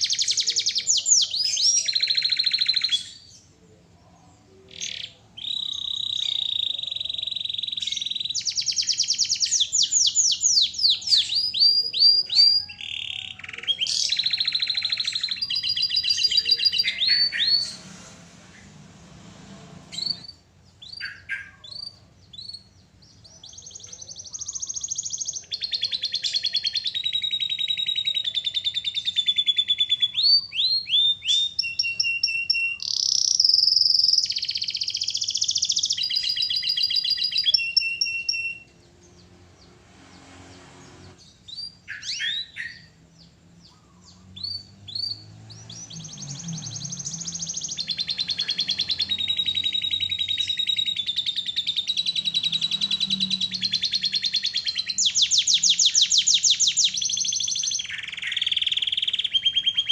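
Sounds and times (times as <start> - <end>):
canary singing trills: 0.0 - 18.7, 19.7 - 59.9.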